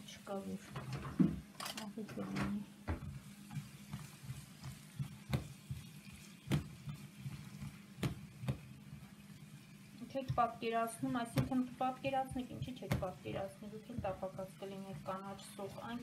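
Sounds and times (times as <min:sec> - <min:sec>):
onions sizzling in pan: 0:02.8 - 0:16.0.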